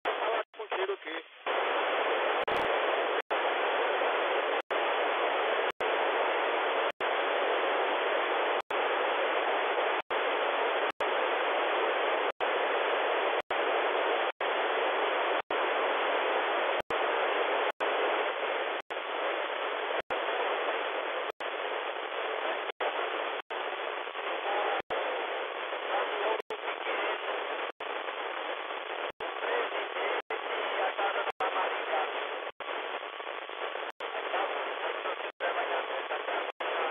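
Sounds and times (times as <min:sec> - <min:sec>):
radio static hiss: 0:00.0 - 0:36.9.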